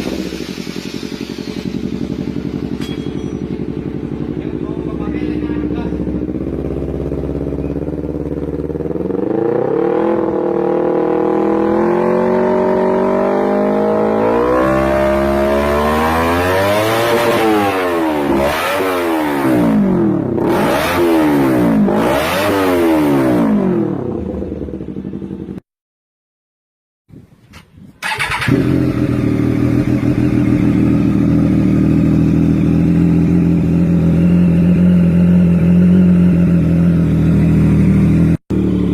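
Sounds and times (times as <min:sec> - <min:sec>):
engine exhaust revving: 0:00.0 - 0:25.6, 0:28.0 - 0:38.9.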